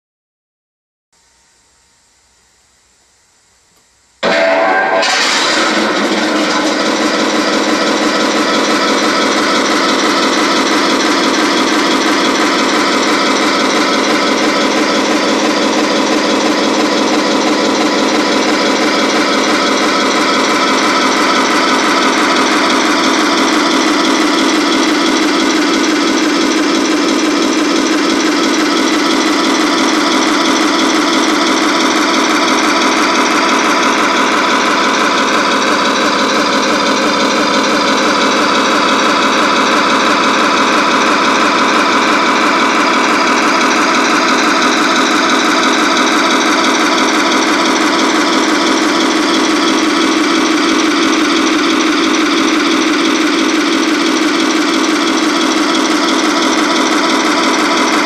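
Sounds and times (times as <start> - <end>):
simulated tank engine idling: 4.2 - 58.0.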